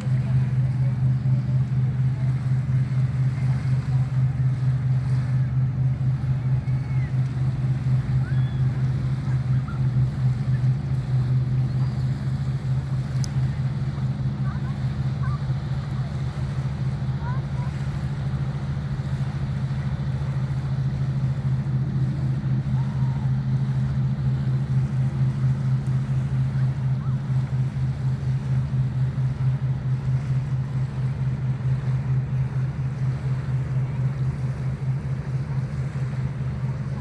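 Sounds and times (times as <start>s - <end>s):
engine running steadily: 0.0s - 37.0s
water washing: 0.0s - 37.0s
wind: 0.0s - 37.0s.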